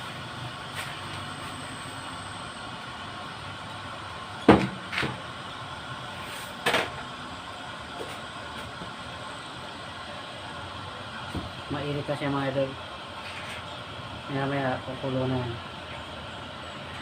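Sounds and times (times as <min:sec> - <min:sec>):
water heater hissing: 0:00.0 - 0:17.0.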